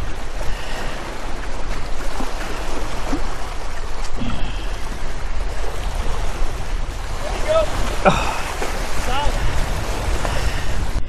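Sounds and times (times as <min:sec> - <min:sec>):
waves splashing against rocks: 0:00.0 - 0:11.0.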